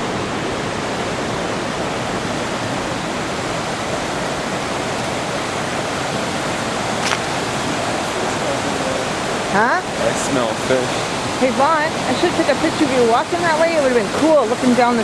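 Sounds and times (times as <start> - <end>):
waterfall and river rushing: 0.0 - 15.0.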